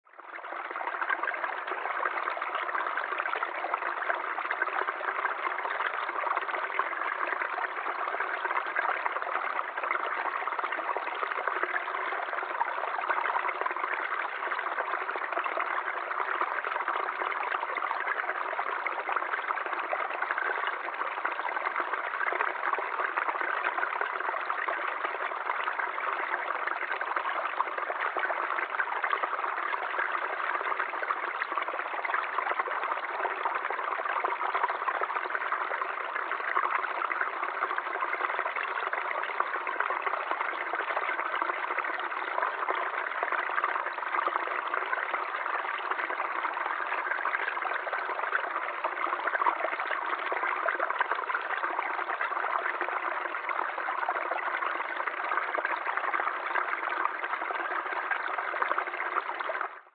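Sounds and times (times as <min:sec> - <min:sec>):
stream water trickling over rocks: 0:00.0 - 0:59.9.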